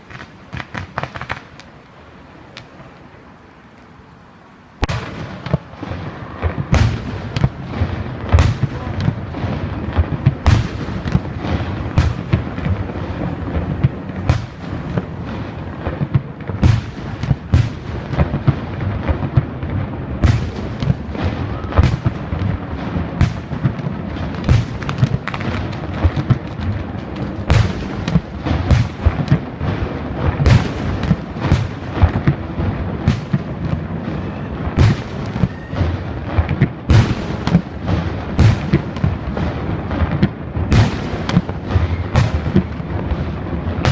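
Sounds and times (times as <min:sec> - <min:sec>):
fireworks booming and cracking: 0:00.0 - 0:01.8, 0:04.8 - 0:43.9
constant low rumble: 0:00.0 - 0:43.9.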